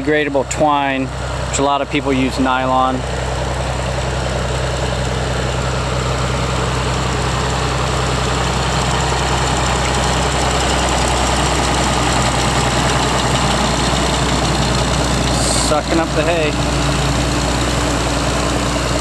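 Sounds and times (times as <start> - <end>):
hay baler working: 0.0 - 19.0
tractor engine running: 0.0 - 19.0.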